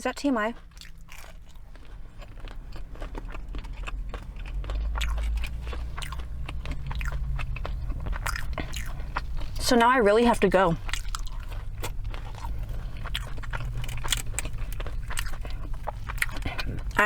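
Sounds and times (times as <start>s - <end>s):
chewing and crunching food: 0.0s - 17.0s
low rumble: 0.6s - 17.0s.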